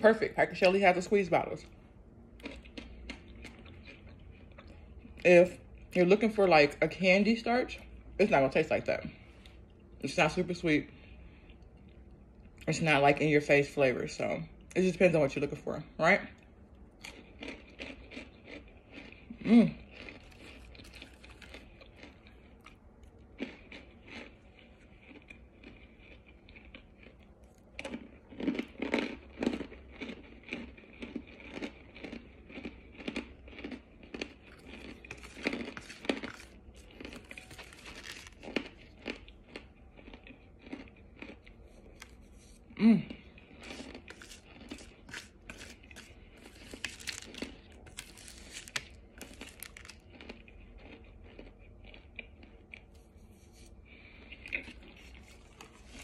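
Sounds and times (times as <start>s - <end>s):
crunching and chewing: 0.6s - 6.5s, 16.3s - 56.0s.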